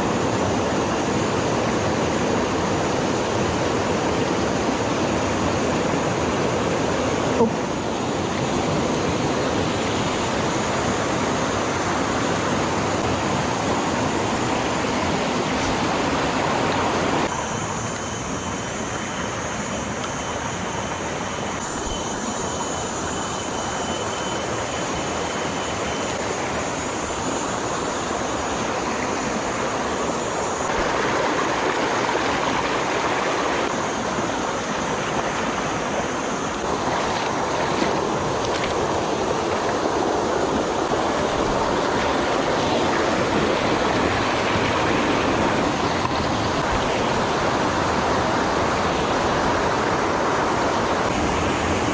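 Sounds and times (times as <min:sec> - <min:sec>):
stream rushing over rocks: 0:00.0 - 0:17.5, 0:20.7 - 0:51.9.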